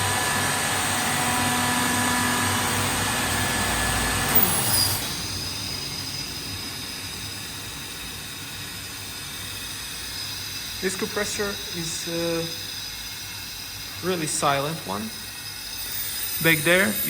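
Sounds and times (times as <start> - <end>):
air compressor humming and whining: 0.0 - 17.0.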